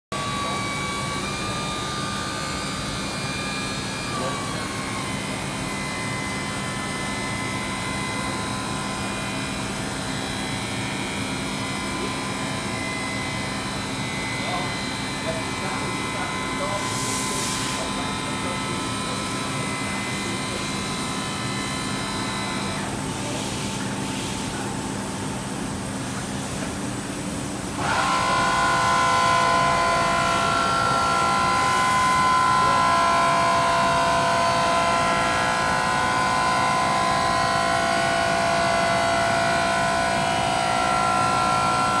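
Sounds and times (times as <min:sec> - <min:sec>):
machine tool humming and whining: 0:00.2 - 0:42.0.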